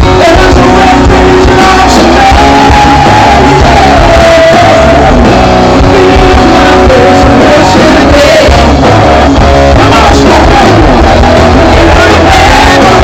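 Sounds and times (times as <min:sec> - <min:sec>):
rock band playing: 0:00.0 - 0:13.0
singing: 0:00.0 - 0:13.0.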